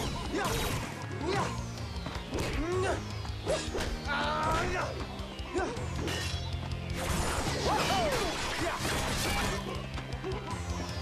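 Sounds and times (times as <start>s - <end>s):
action background music: 0.0s - 11.0s.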